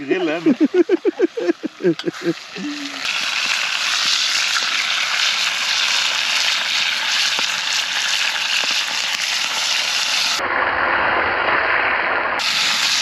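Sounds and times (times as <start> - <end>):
food sizzling in a pan: 0.0 - 10.4, 12.4 - 13.0.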